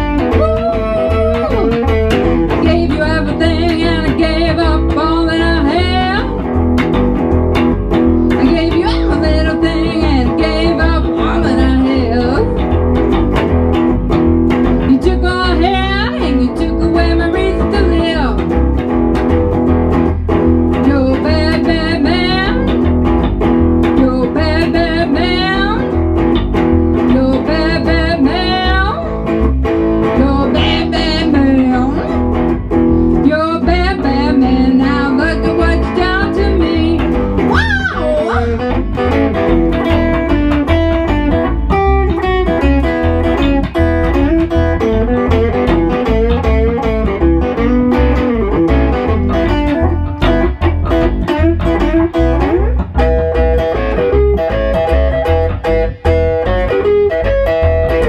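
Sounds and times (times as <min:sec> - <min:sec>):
electric guitar lead: 0:00.0 - 0:58.0
upright double bass: 0:00.0 - 0:58.0.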